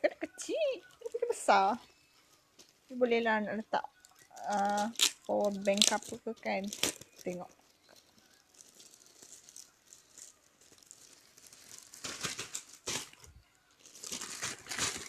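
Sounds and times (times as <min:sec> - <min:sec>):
packaging rustling and crinkling: 0:00.8 - 0:03.0, 0:03.8 - 0:15.0.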